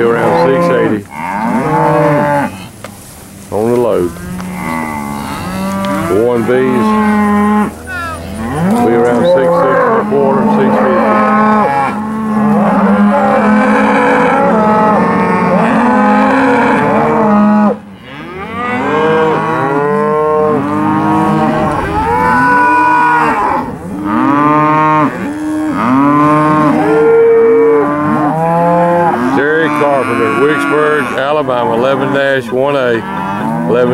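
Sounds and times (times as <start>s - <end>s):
calves bawling: 3.5s - 33.9s.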